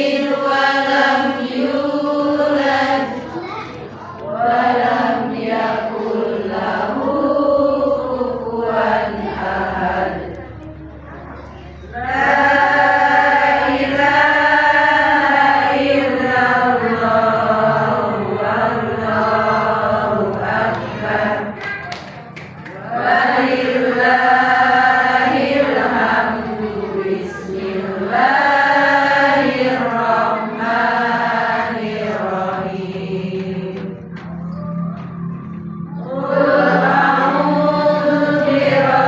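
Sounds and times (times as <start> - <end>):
person chanting recitation: 0.0 - 39.0.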